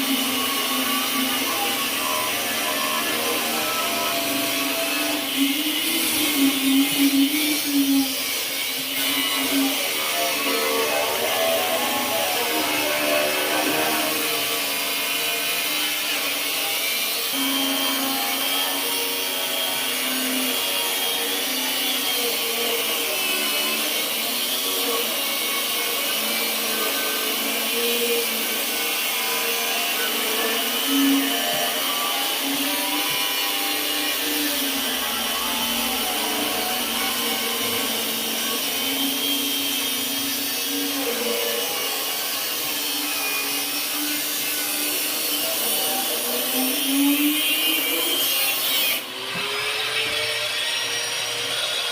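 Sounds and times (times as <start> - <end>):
angle grinder motor whine: 0.0 - 51.9.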